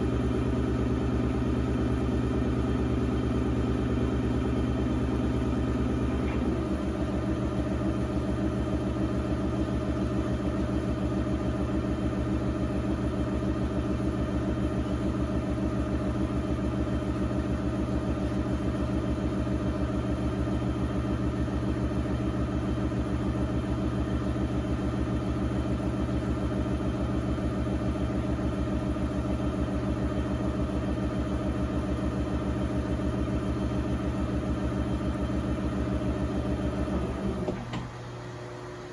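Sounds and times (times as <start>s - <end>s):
pottery wheel motor humming: 0.0s - 38.9s.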